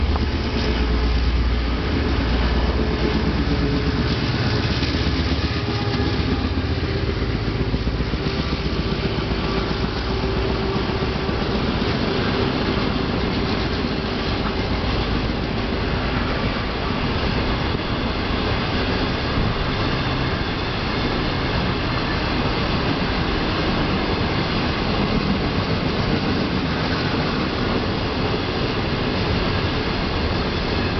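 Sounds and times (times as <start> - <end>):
locomotive engine rumbling: 0.0 - 30.9
train wheels on rails: 0.0 - 30.9.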